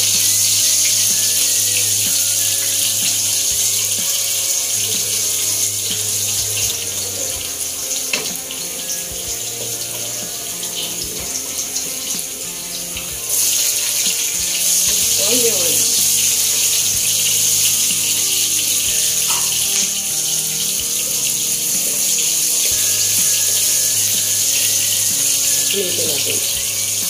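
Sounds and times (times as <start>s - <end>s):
garlic sizzling in hot oil: 0.0s - 27.0s.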